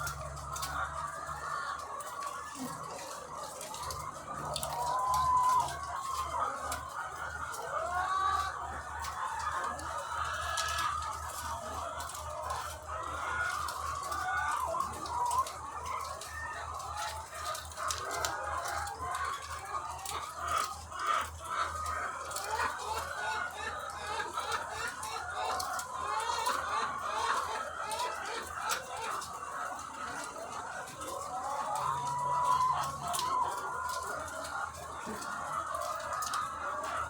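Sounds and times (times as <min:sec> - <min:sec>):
hens clucking: 0:00.0 - 0:37.0.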